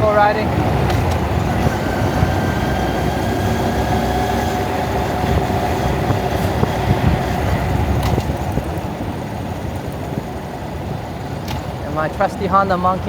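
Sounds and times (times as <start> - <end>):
motorcycle engine running: 0.0 - 13.0
wind rumble on microphone: 0.0 - 13.0.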